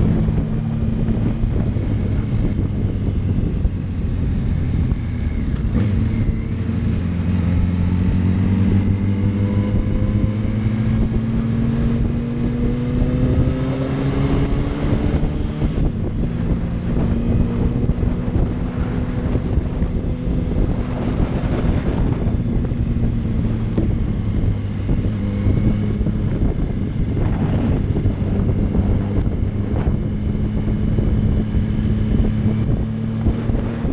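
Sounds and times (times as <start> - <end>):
motorcycle engine accelerating: 0.0 - 33.9
wind rushing over microphone: 0.0 - 33.9.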